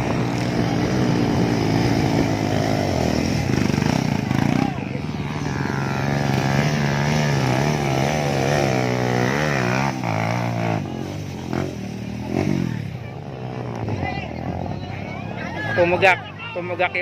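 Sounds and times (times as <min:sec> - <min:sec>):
motocross bike engine revving: 0:00.0 - 0:14.8.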